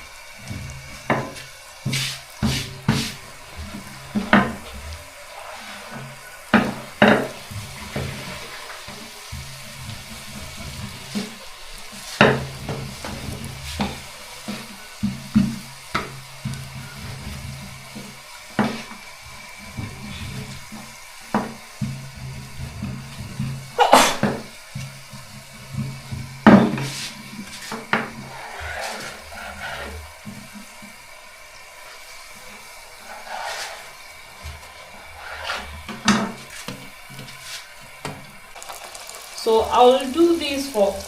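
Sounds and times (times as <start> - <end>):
dough frying in hot oil: 0.0 - 41.0.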